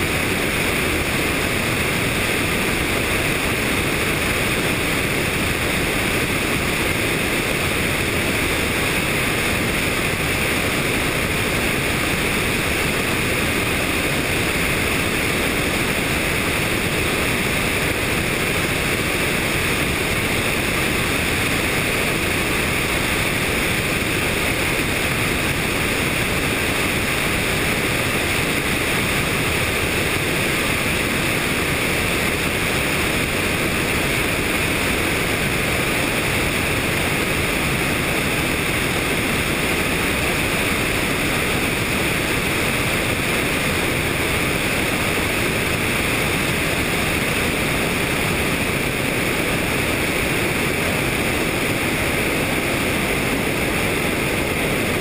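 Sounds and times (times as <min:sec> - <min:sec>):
helicopter in flight: 0:00.0 - 0:55.0
wind on microphone: 0:00.0 - 0:55.0.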